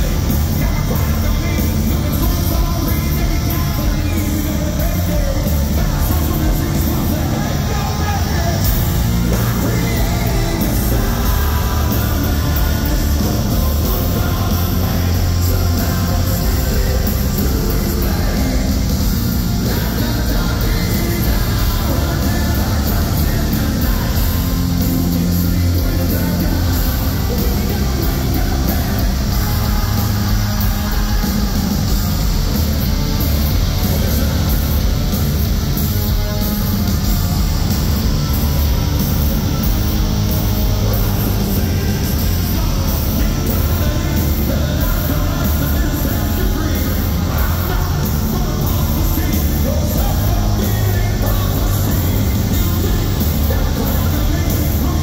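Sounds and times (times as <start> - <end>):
male singer: 0.0 - 32.6, 33.7 - 34.9, 40.6 - 55.0
live hard rock band: 0.0 - 55.0.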